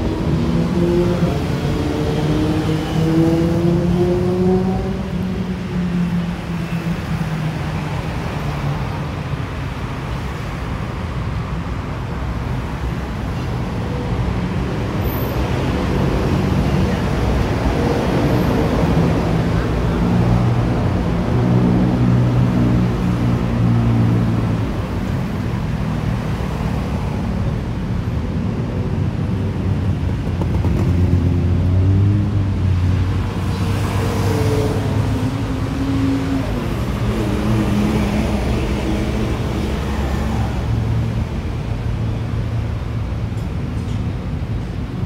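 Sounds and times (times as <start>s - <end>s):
low road rumble: 0.0s - 45.0s
vehicle engines passing: 0.0s - 45.0s.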